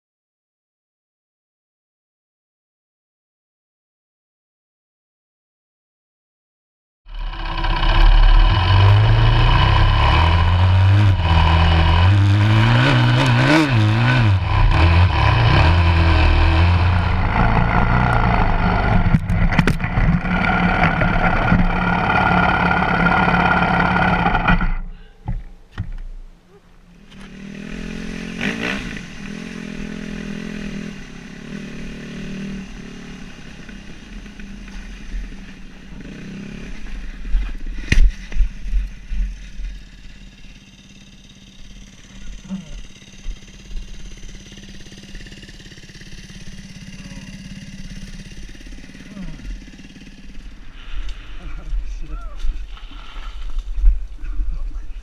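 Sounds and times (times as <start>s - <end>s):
dirt bike engine revving: 7.1s - 24.9s, 26.9s - 53.8s.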